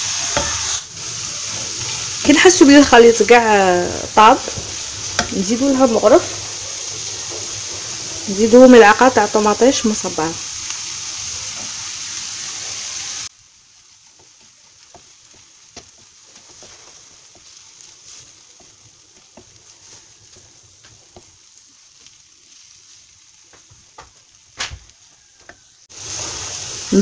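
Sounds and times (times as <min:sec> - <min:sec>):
wooden spatula scraping a pan: 0:00.0 - 0:12.9, 0:14.1 - 0:24.0
vegetables sizzling in a pan: 0:00.0 - 0:27.0.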